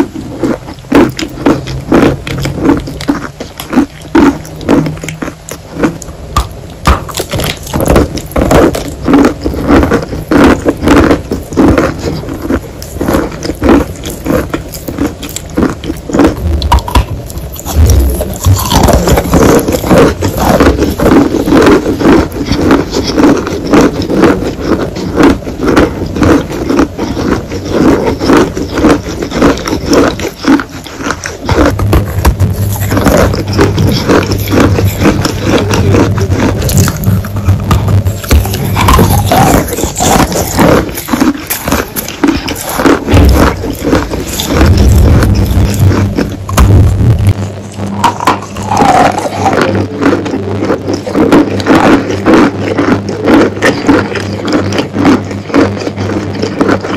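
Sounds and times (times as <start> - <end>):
chewing chalk crunching: 0.0 - 56.9.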